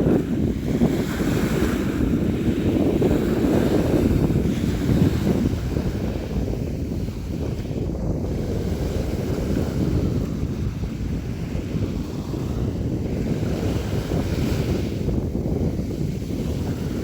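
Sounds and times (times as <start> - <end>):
sea waves breaking: 0.0 - 17.0.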